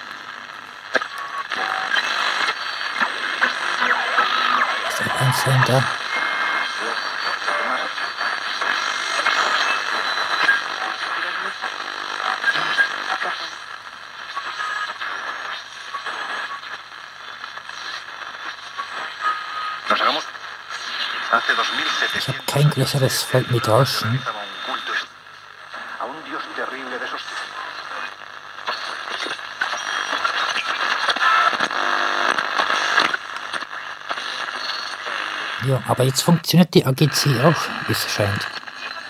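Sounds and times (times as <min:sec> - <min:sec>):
radio static hissing and crackling: 0:00.1 - 0:39.0.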